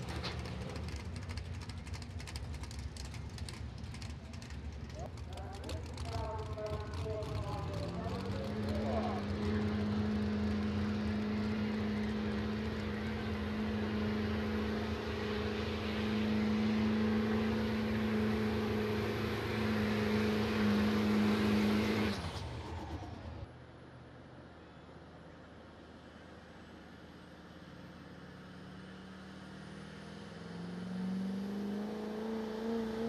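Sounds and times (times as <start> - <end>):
truck engine at full throttle: 0.0 - 23.6, 25.8 - 33.0.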